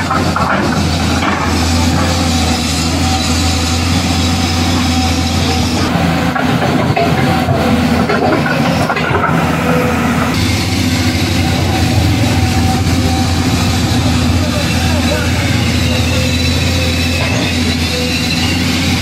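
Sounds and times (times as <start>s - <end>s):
heavy engine drone: 0.0s - 19.0s.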